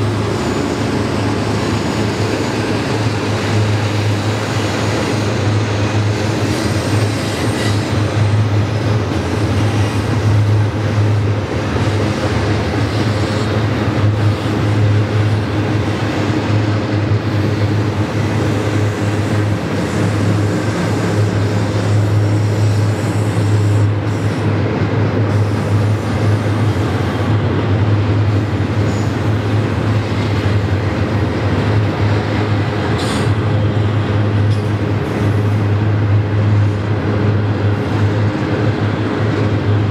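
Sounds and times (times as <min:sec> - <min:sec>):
constant low hum: 0:00.0 - 0:39.9
train wheels rumbling on rails: 0:00.0 - 0:39.9.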